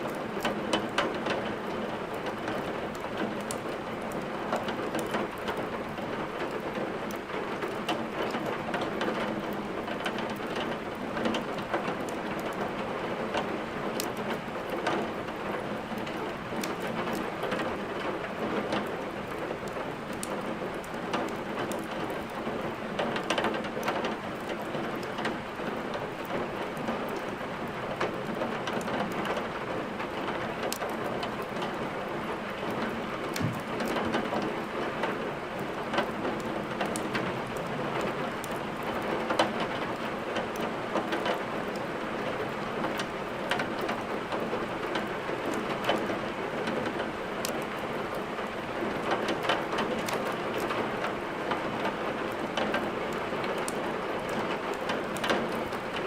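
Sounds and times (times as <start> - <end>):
heavy rain: 0.0 - 56.0
wood fire crackling and popping: 0.1 - 12.7, 13.4 - 32.0, 32.6 - 56.0.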